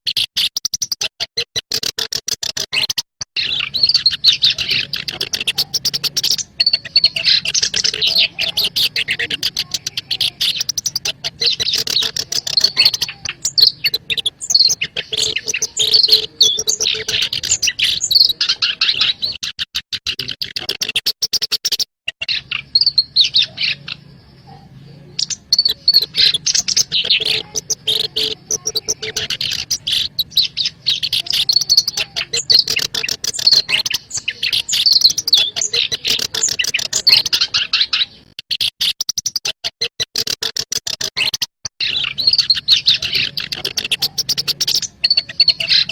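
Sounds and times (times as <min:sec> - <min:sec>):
bird song scratchy chattering: 0:00.0 - 0:45.9.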